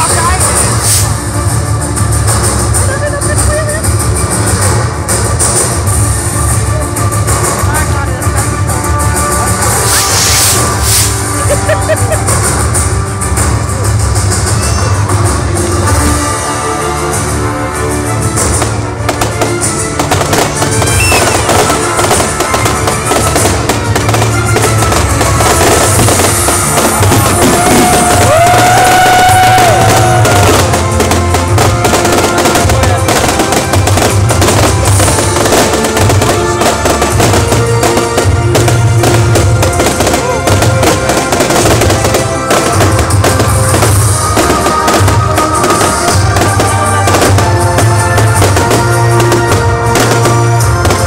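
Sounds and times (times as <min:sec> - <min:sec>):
fireworks crackling and bursting: 0:00.0 - 0:51.0
loud bass-heavy music: 0:00.0 - 0:51.0.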